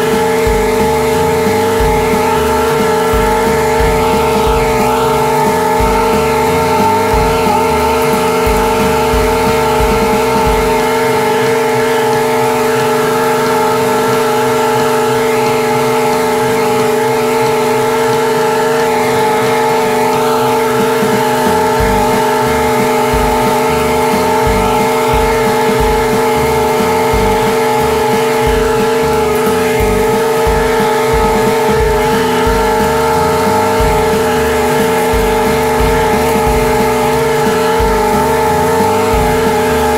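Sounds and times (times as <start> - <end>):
high blade whine: 0.0 - 39.9
mower engine running: 0.0 - 39.9.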